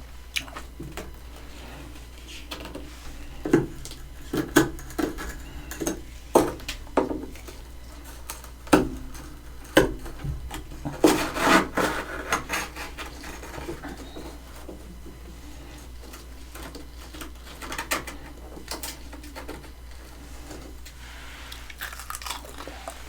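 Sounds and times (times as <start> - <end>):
frost crunching and scraping: 0.4 - 23.0.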